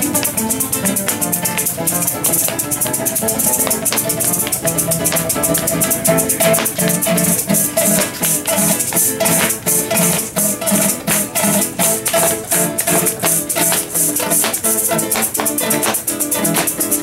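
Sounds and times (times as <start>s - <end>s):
maracas shaking: 0.0s - 17.0s
strummed string instruments: 0.0s - 17.0s.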